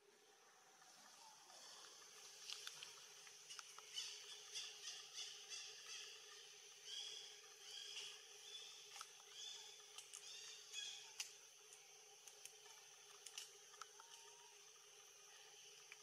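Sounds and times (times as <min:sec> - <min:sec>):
high background hum: 0:00.0 - 0:16.0.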